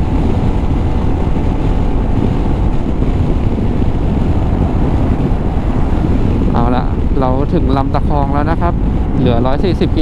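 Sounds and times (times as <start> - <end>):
wind rush over microphone: 0.0 - 10.0.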